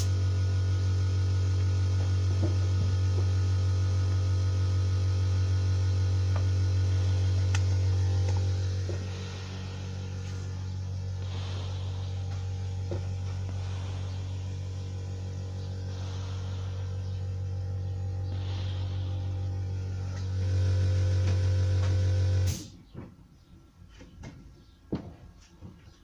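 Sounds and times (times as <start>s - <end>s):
machine electrical hum: 0.0s - 26.0s.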